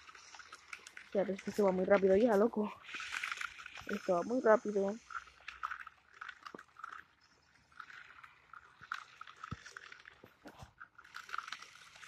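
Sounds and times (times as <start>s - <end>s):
toy car tyres rolling on gravel: 0.0s - 12.0s.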